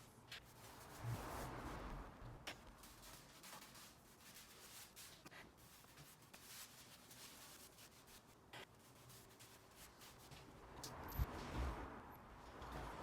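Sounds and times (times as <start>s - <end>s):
faint scratching strokes: 0.0s - 11.6s.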